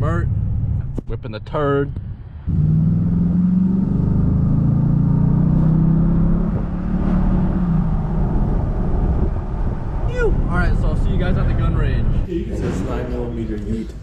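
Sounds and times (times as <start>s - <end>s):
car engine droning: 0.0s - 12.3s.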